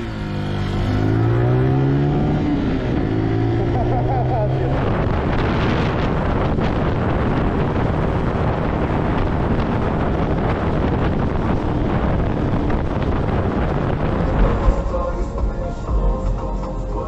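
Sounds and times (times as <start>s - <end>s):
car wind and road noise: 0.0s - 17.0s.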